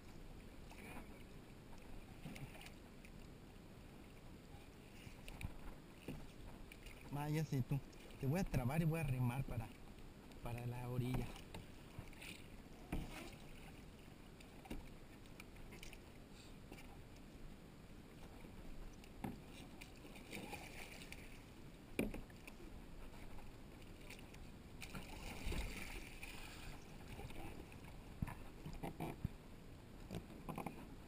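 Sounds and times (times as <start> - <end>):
water lapping against kayak hulls: 0.0 - 31.0.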